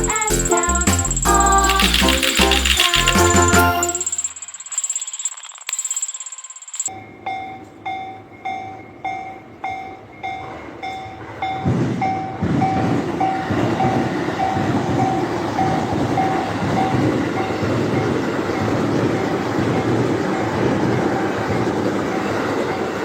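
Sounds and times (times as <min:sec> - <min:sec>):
level-crossing warning bell: 0:00.0 - 0:23.0.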